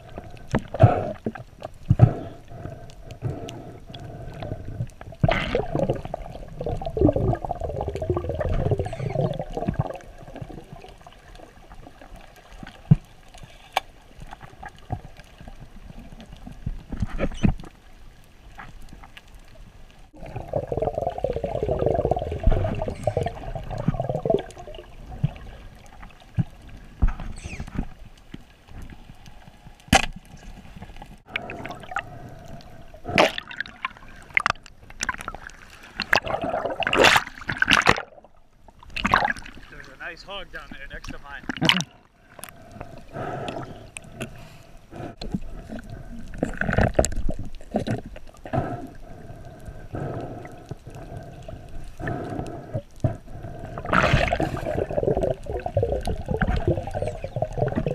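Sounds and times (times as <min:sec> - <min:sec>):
underwater rushing gurgling water: 0:03.5 - 0:18.1, 0:19.0 - 0:27.5, 0:31.2 - 0:57.9.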